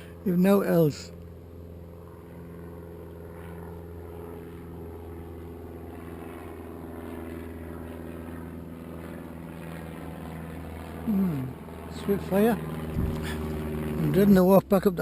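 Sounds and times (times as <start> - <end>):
propeller plane engine humming: 0.0 - 15.0.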